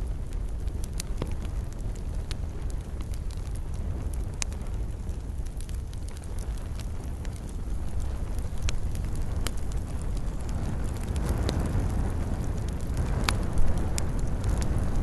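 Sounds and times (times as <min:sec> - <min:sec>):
low rumble of flames: 0:00.0 - 0:15.0
sharp fire pops: 0:00.0 - 0:15.0
wood crackling: 0:00.0 - 0:15.0.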